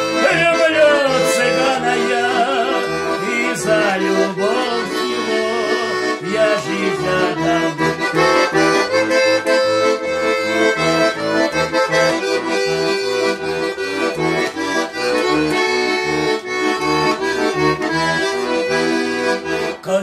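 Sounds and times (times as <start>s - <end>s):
accordion playing: 0.0s - 20.0s.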